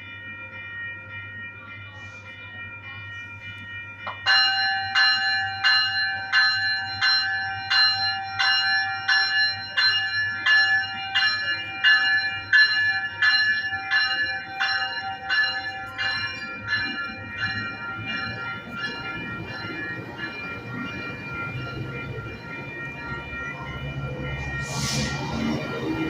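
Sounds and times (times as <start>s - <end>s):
low train rumble: 0.0s - 26.0s
train warning bell ringing: 0.0s - 26.0s.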